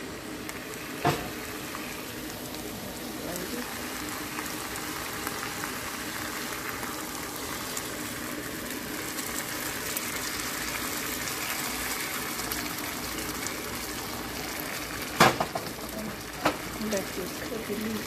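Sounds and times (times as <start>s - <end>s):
pan sizzling: 0.0s - 18.0s.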